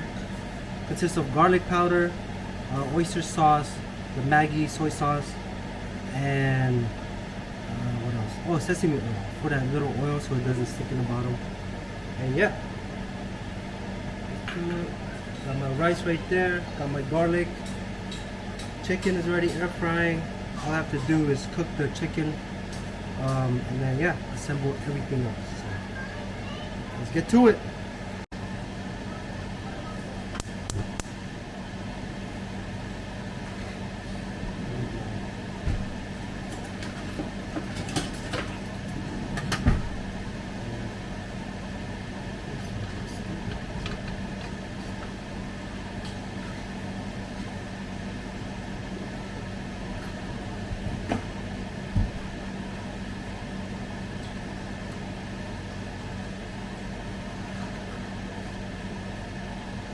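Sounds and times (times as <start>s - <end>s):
air fryer fan hum: 0.0s - 59.9s.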